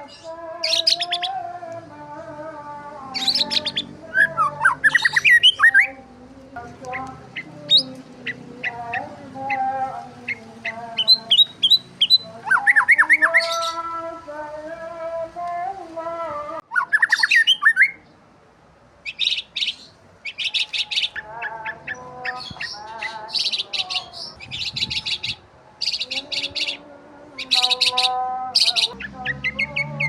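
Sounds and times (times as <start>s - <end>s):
birds warbling calls: 0.0s - 1.4s, 3.1s - 6.0s, 6.6s - 14.1s, 16.6s - 18.1s, 19.0s - 30.0s
small birds trilling: 0.0s - 1.5s, 3.0s - 6.0s, 6.6s - 14.2s, 16.7s - 18.1s, 19.0s - 30.0s.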